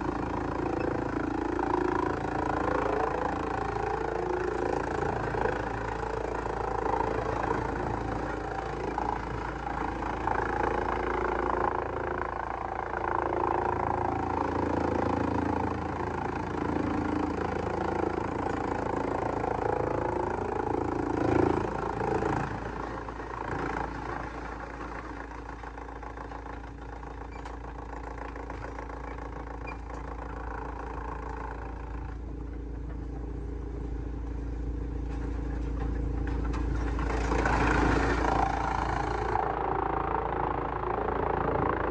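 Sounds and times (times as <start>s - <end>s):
wood shredder grinding: 0.0s - 41.9s.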